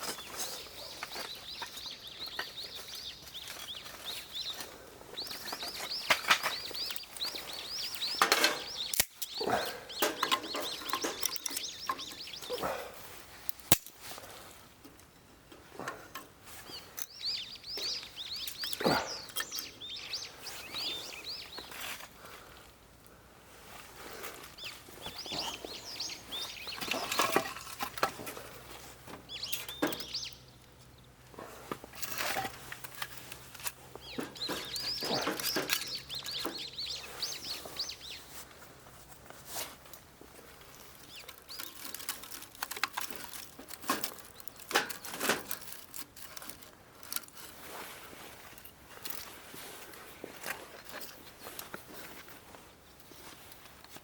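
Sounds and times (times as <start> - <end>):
small birds twittering: 0.0 - 14.6, 15.2 - 23.2, 23.8 - 38.8, 40.3 - 47.2.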